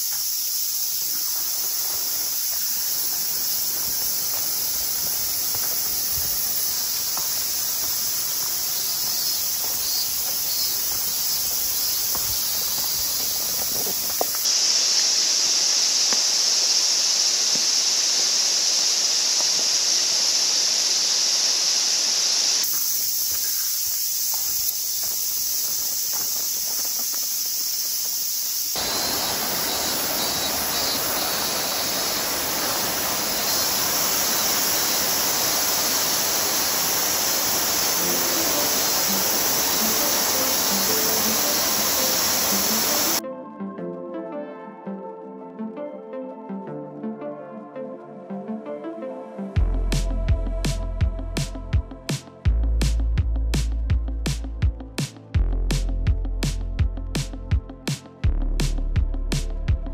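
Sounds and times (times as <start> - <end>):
high-pitched outdoor hiss: 0.0 - 43.2, 49.6 - 59.6.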